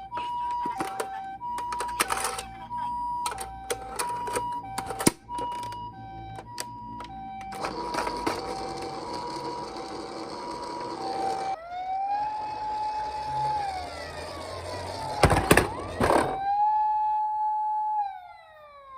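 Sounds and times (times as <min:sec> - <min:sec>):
rising and falling siren tone: 0:00.0 - 0:18.9
toy two-tone siren: 0:00.0 - 0:18.9.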